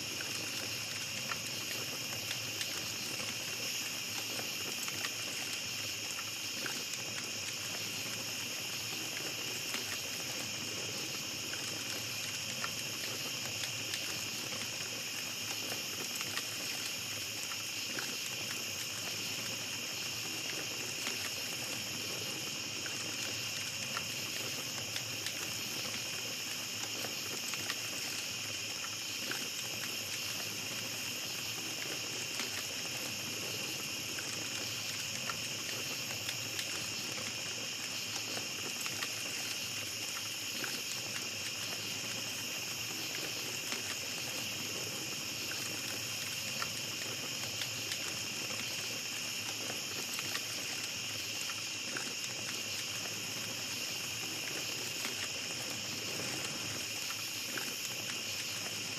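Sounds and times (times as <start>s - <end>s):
campfire crackling: 0.0s - 58.9s
night insects chorus: 0.0s - 58.9s.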